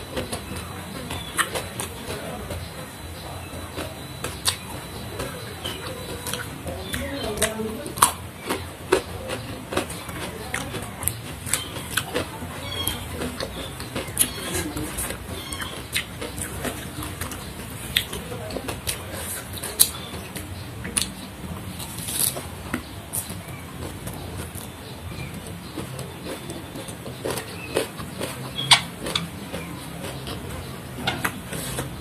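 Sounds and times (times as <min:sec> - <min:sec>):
chewing and crunching vegetables: 0:00.0 - 0:32.0.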